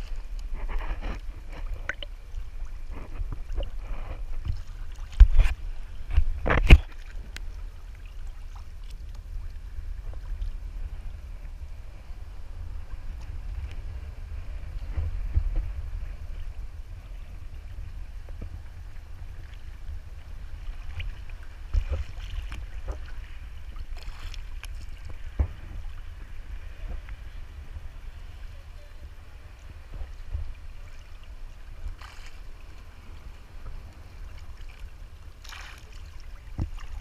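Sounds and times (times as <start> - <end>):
small waves splashing against float: 0.0 - 13.7, 14.5 - 37.0
wind rumble on microphone: 0.0 - 37.0.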